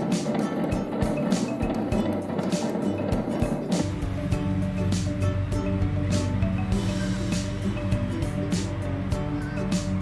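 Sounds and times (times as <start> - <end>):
melodic background music with beat: 0.0 - 10.0.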